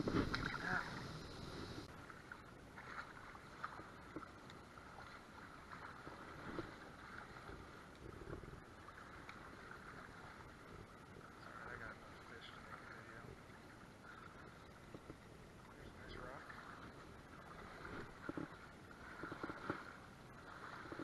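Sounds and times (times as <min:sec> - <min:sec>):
faint river water flowing: 0:00.0 - 0:21.0.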